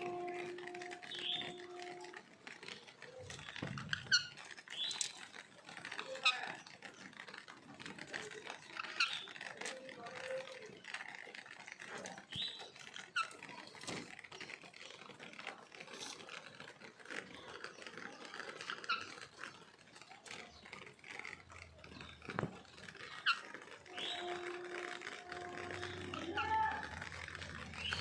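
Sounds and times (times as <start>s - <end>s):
rain pattering and dripping: 0.0s - 28.0s.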